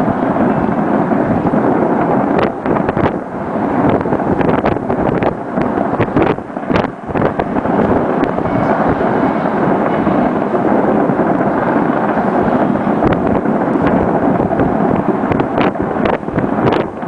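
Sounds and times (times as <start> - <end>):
fireworks rumbling din: 0.0 - 17.0.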